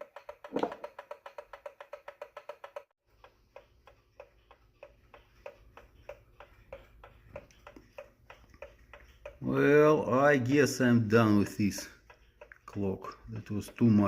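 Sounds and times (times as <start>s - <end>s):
mechanical clock ticking: 0.0s - 14.0s.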